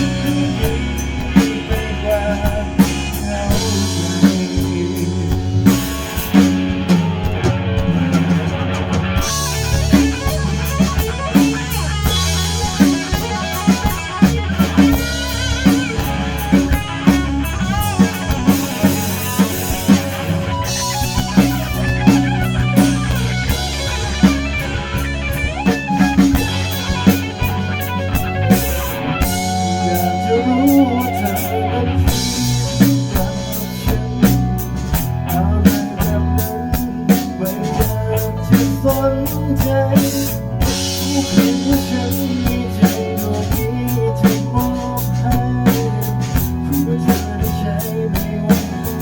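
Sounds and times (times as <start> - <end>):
bass guitar: 0.0 - 49.0
drum kit beat: 0.0 - 49.0
guitar: 0.0 - 49.0.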